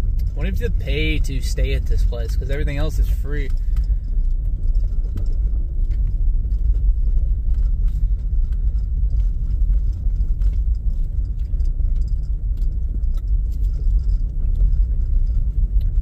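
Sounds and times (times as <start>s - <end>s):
car rumbling over rough ground: 0.0s - 16.0s
light rattles and clicks: 0.0s - 16.0s.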